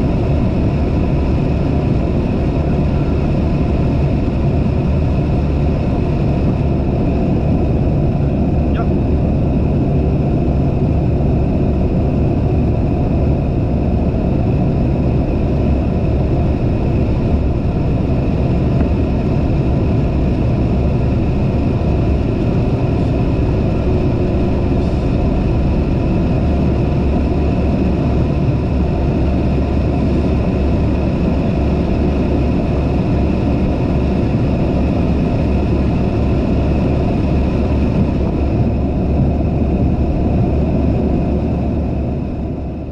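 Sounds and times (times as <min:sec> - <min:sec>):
aircraft engine and airflow drone: 0:00.0 - 0:42.9.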